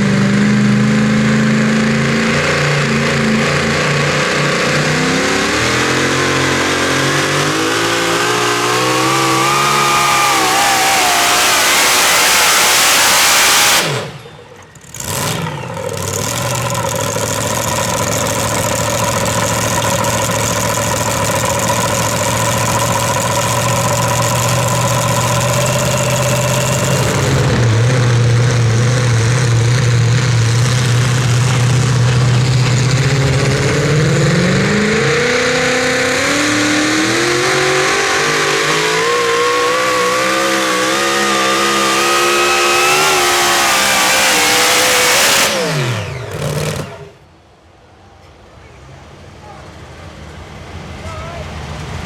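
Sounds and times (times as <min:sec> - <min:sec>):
loud truck engine revving: 0:00.0 - 0:47.3.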